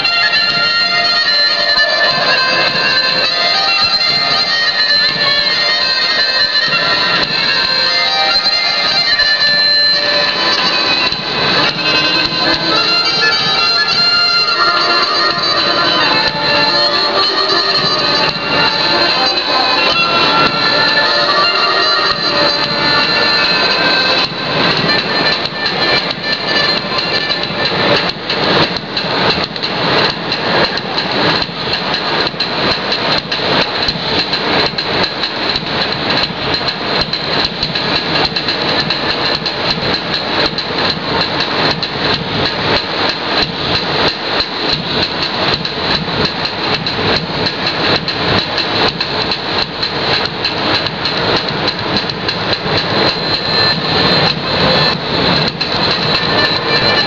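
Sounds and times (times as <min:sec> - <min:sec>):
folk dance music: 0:00.0 - 0:57.0.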